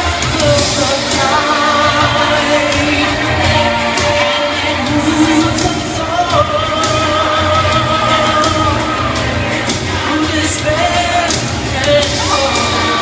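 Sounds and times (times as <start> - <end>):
pop song over loudspeakers: 0.0 - 13.0.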